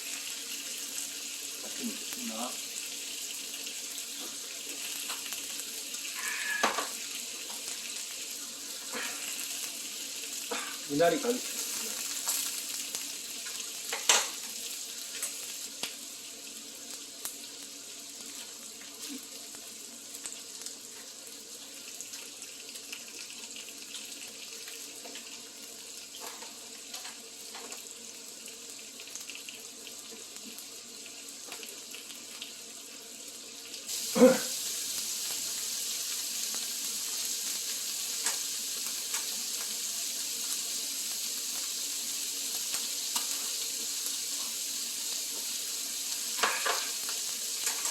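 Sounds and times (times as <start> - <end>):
meat sizzling on a grill: 0.0 - 47.9.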